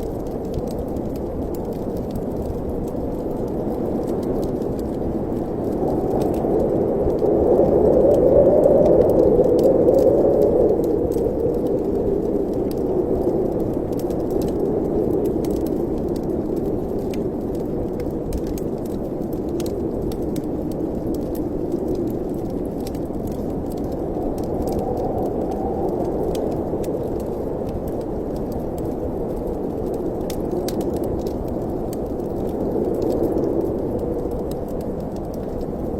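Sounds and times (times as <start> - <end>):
faint small clicks and crackles: 0.0 - 35.9
wind moaning in chimney: 0.0 - 35.9.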